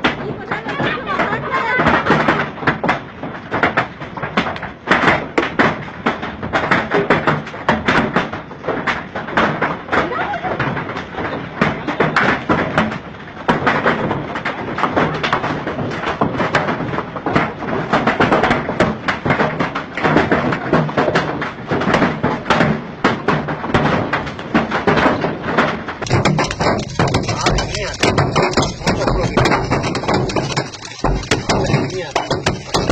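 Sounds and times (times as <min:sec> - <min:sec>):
large hailstones pelting down: 0:00.0 - 0:32.9.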